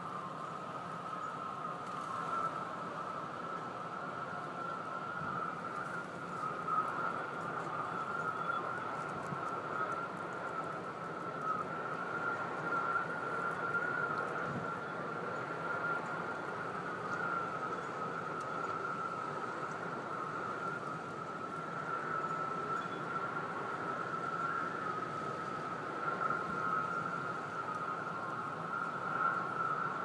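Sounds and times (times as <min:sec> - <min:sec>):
high-pitched wavering drone: 0:00.0 - 0:30.0.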